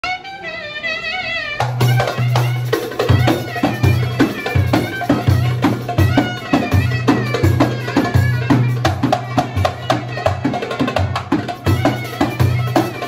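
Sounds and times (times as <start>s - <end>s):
clarinet ornamented melody: 0.0s - 13.0s
frame drum and darbuka beats: 1.6s - 13.0s.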